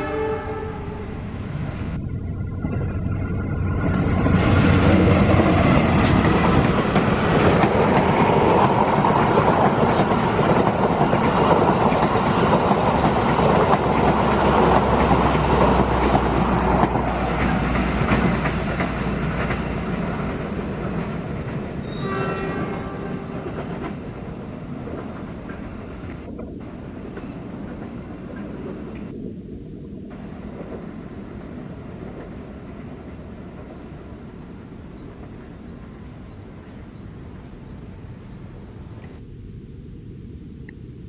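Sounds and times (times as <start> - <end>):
heavy wheel-on-rail noise: 0.0 - 39.2
locomotive engine drone: 0.0 - 39.6.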